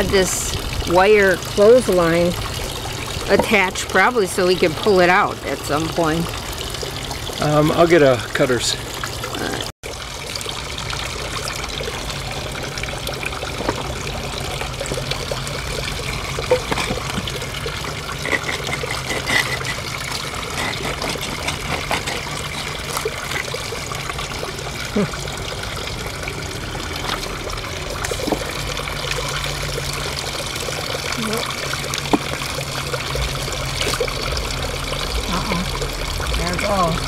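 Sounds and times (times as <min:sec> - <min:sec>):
water trickling into pond: 0:00.0 - 0:37.0.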